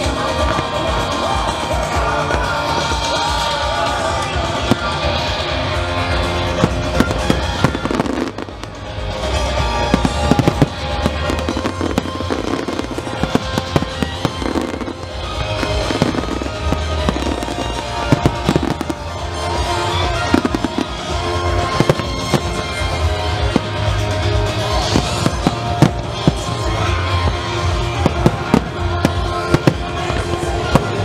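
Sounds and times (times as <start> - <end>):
fireworks bursting and crackling: 0.0 - 31.0
music: 0.0 - 31.0.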